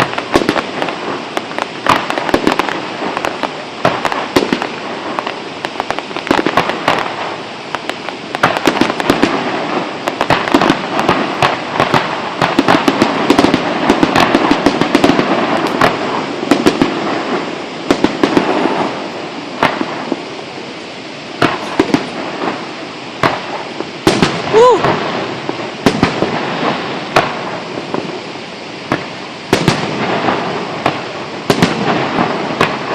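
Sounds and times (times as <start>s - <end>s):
fireworks popping and banging: 0.0s - 20.7s, 21.3s - 32.9s.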